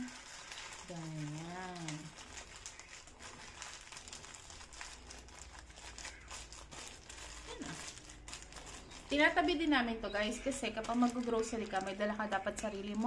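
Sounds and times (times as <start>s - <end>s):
shopping bag rustling: 0.0s - 13.0s.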